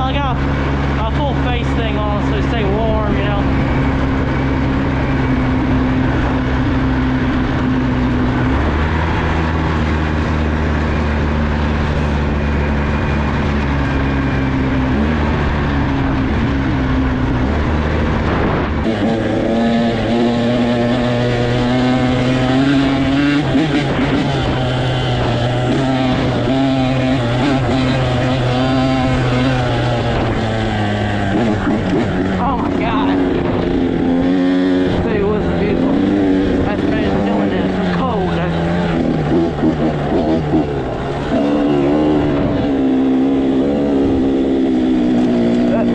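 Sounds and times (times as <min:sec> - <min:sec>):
engine pitch wavering: 0:00.0 - 0:45.9
small vehicle engine running: 0:00.0 - 0:45.9.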